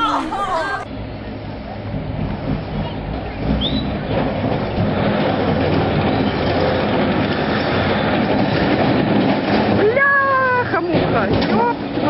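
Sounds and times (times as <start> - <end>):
vehicle rumbling and rattling: 0.8 - 12.0.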